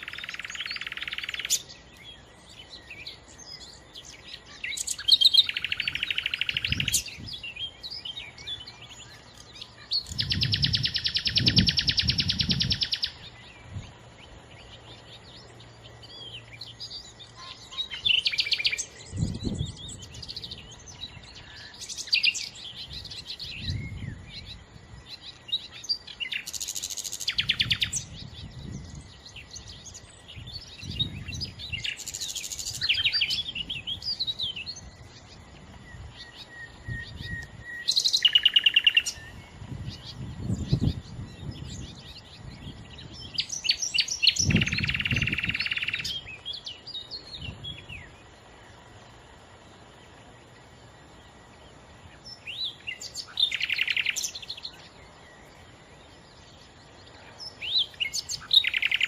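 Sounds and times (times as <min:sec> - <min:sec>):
nightingale singing trills and whistles: 0:00.0 - 0:49.0, 0:51.2 - 0:59.0.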